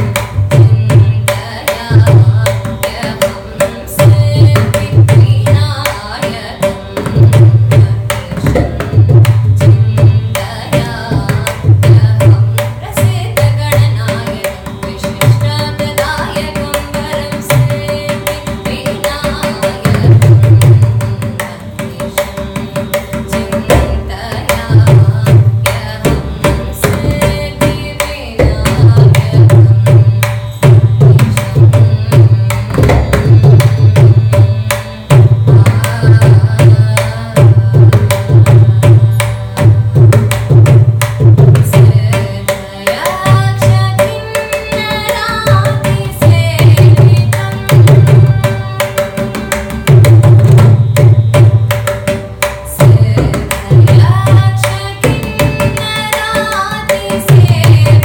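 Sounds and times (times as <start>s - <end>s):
mridangam drumming: 0.0s - 58.0s
woman singing: 0.0s - 58.0s.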